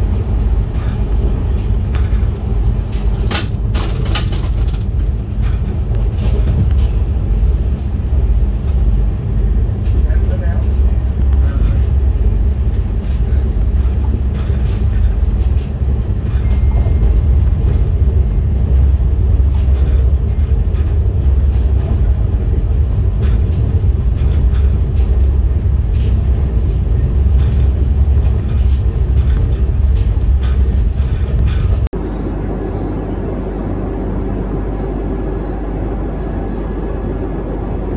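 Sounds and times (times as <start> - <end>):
train rumbling at speed: 0.0 - 37.9.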